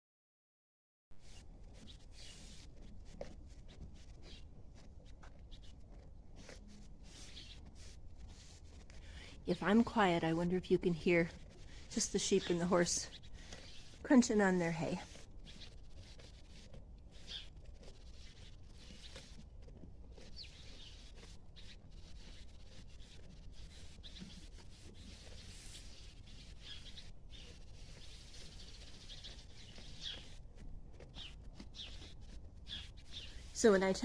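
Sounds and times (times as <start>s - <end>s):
animals chewing hay: 1.2s - 34.0s
small birds chirping: 1.2s - 34.0s.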